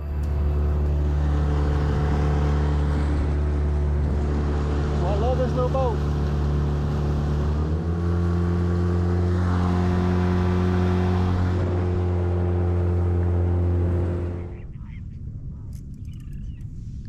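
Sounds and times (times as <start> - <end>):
outboard motor running: 0.0 - 14.8.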